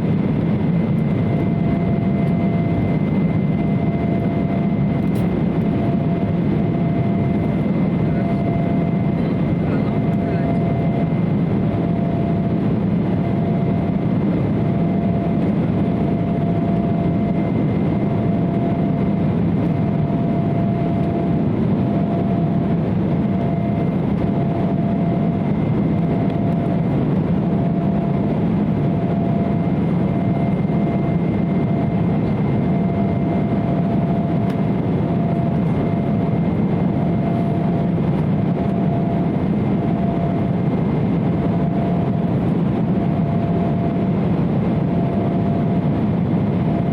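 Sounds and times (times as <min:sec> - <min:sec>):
aircraft cabin drone: 0:00.0 - 0:46.9.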